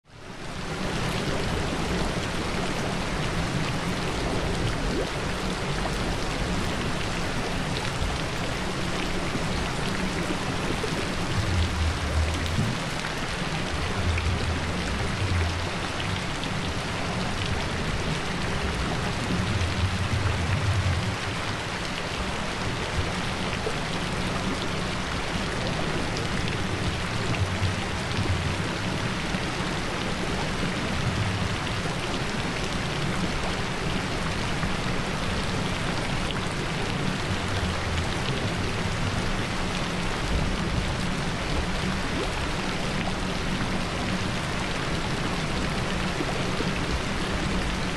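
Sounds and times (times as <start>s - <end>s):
steady rain hiss: 0.1s - 47.9s.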